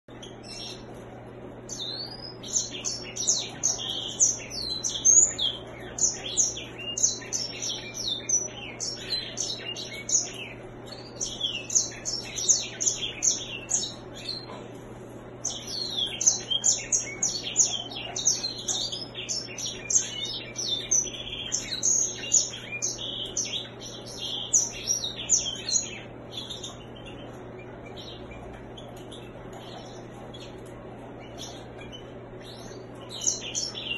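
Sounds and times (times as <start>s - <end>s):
bird singing twittering song: 0.1s - 33.9s.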